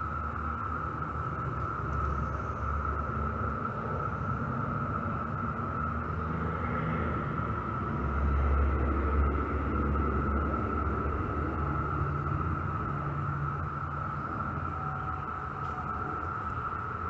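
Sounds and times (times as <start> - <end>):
cicadas droning: 0.0 - 17.0
low rumble: 0.0 - 17.0.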